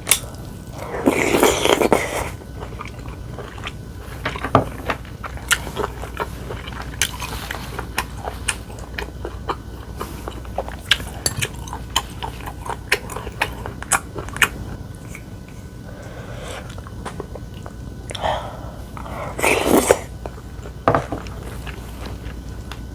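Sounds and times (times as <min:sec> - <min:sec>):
person chewing food: 0:00.0 - 0:22.9.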